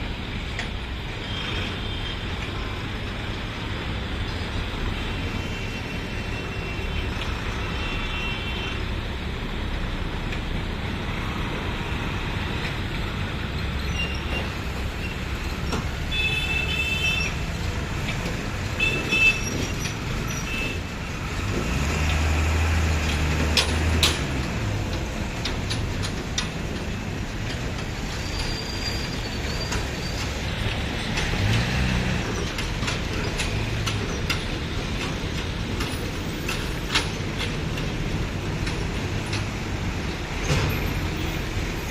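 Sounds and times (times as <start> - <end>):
heavy vehicle engine: 0.0 - 41.9
trucks and buses passing: 0.0 - 41.9.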